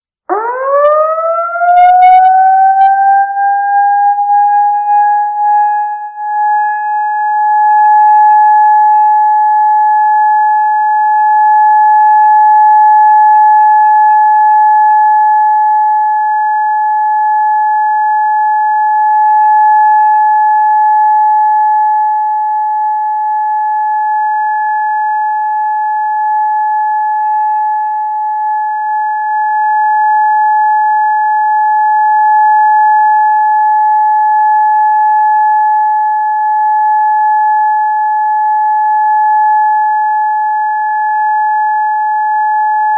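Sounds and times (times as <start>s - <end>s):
siren steady high tone: 0.3s - 42.9s.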